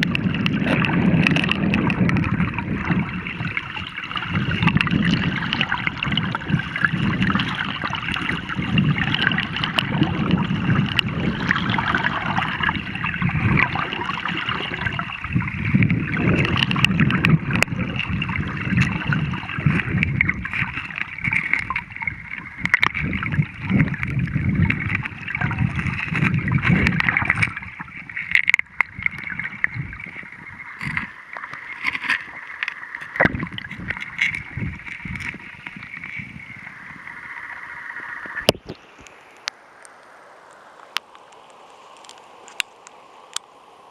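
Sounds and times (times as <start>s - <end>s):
small water splashes: 0.0s - 43.9s
water rushing over stones: 0.0s - 43.9s.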